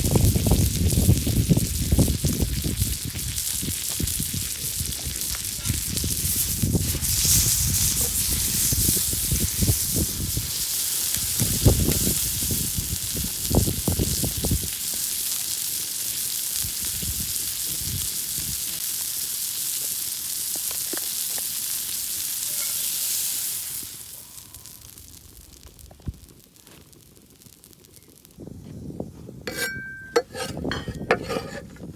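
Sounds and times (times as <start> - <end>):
steak sizzling in a pan: 0.0 - 28.4.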